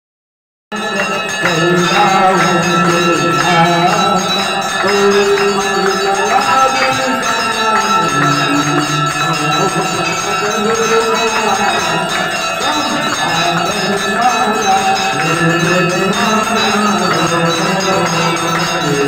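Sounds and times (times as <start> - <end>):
crowd singing: 0.7 - 19.0
metal bells ringing: 0.7 - 19.0.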